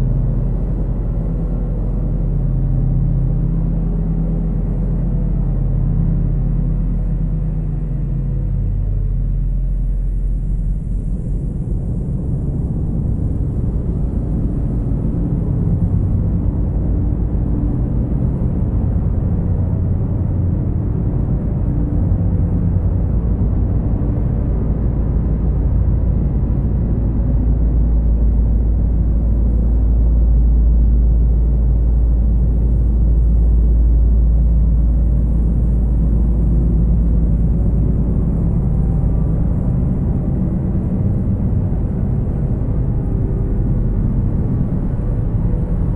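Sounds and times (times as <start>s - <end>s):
dark ambient drone music: 0.0s - 45.9s.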